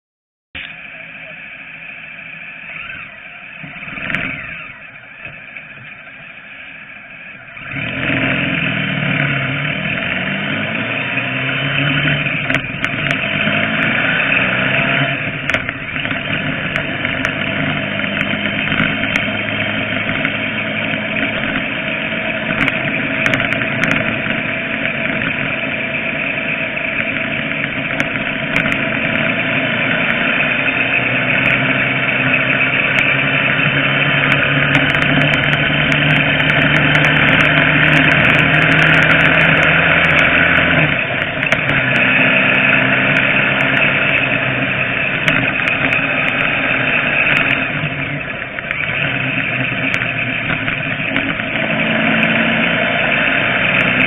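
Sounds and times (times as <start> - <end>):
road noise: 0.6 - 54.0
vehicle engine accelerating: 0.6 - 54.0.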